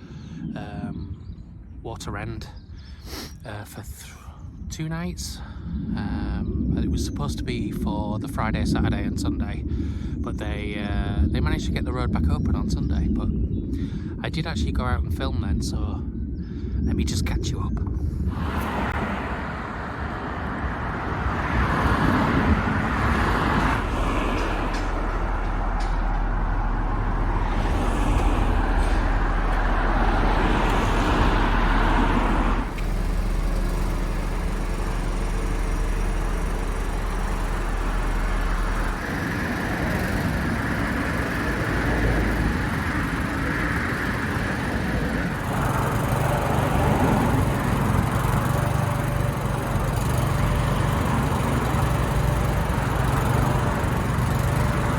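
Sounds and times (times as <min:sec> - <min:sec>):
heavy vehicle engines rumbling: 0:00.0 - 0:54.9.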